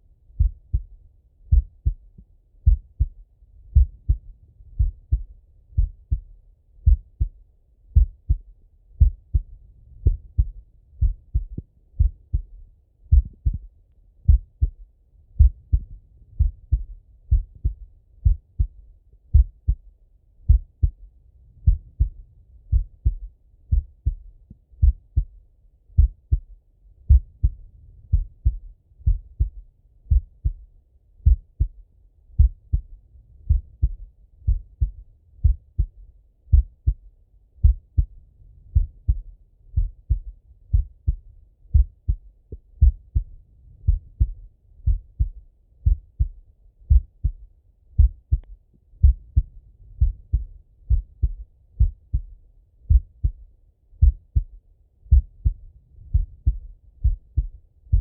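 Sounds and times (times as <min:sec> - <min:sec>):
heartbeat through stethoscope: 0:00.4 - 0:19.9, 0:20.5 - 0:58.0.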